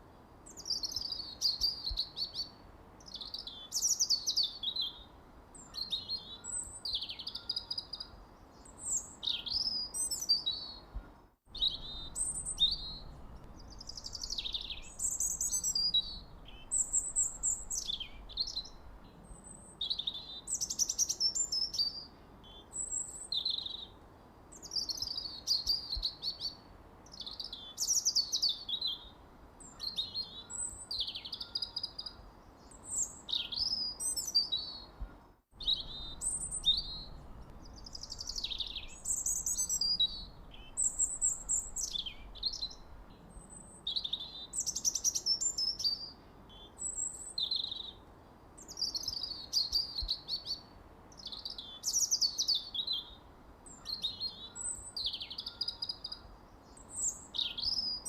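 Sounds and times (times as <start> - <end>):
faint steady hiss: 0.0 - 58.0
birds chirping: 0.5 - 24.0, 24.6 - 48.0.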